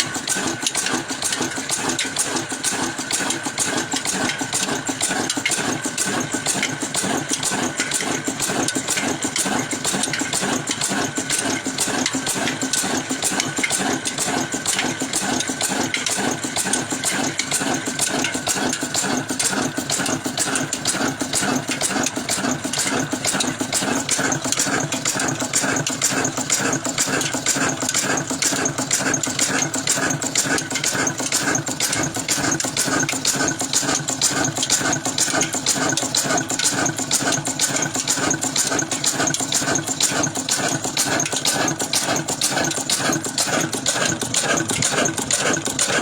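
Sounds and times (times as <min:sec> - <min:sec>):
water pump engine running: 0:00.0 - 0:46.0.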